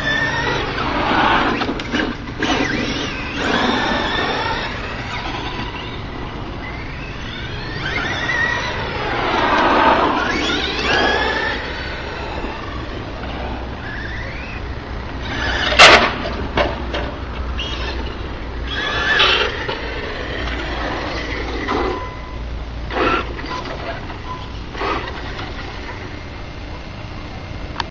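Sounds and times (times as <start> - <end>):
electric motor whining: 0.0 - 16.6, 17.4 - 27.8.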